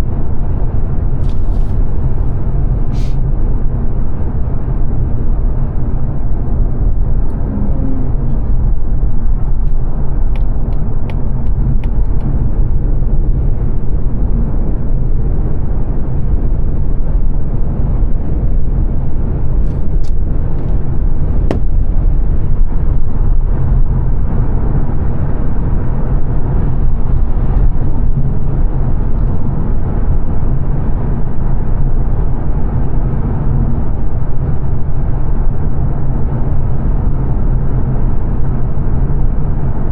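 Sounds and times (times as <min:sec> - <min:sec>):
tyre and engine rumble: 0:00.0 - 0:34.5.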